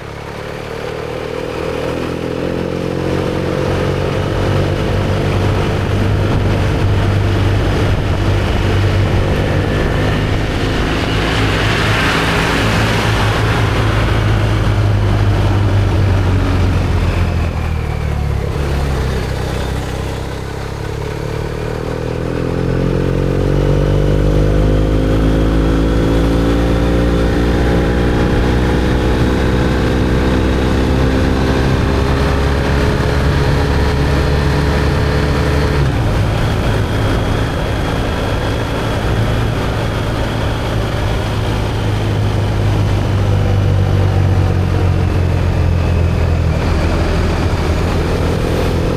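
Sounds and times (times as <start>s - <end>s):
motorcycle engine while riding: 0.0s - 48.9s.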